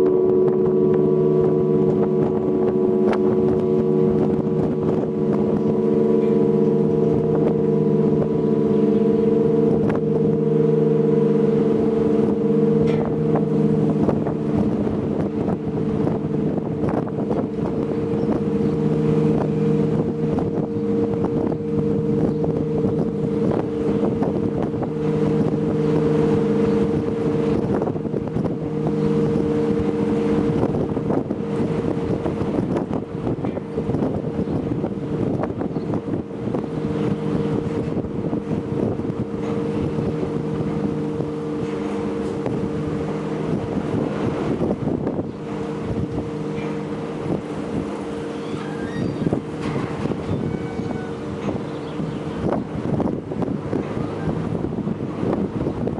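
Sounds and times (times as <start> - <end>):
large bells humming: 0.0 - 55.9.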